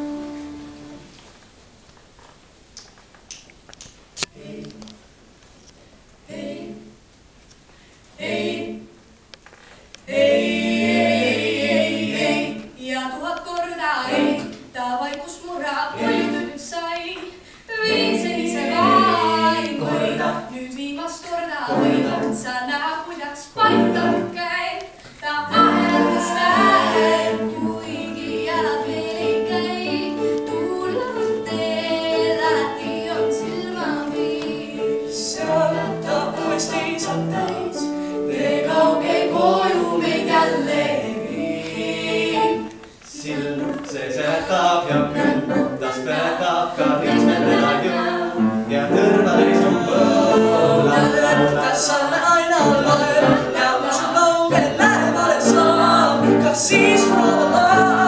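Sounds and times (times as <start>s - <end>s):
vocal quartet singing a cappella: 4.3s - 5.0s, 6.3s - 7.0s, 8.1s - 9.0s, 10.0s - 58.0s.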